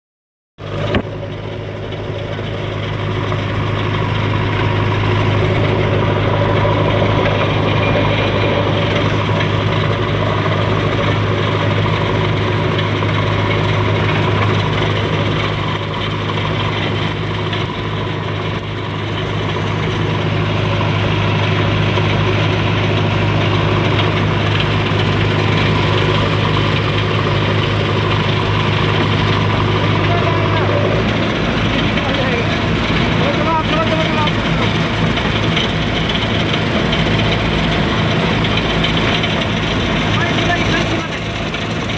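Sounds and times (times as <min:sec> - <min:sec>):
truck engine running under load: 0:00.6 - 0:41.9.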